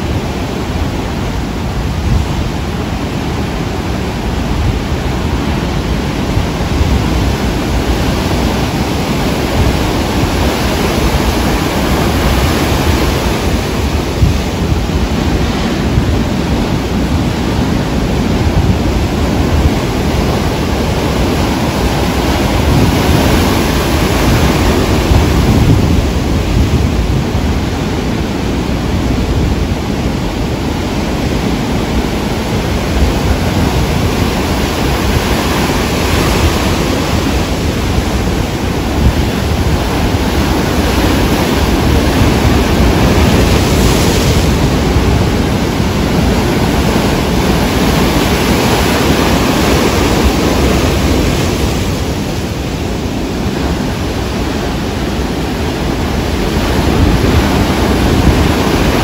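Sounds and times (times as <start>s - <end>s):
rough sea surf breaking: 0.0s - 59.0s.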